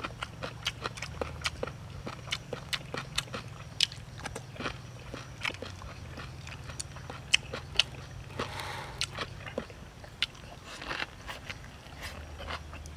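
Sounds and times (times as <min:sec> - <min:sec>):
person chewing crisp food: 0:00.0 - 0:12.9.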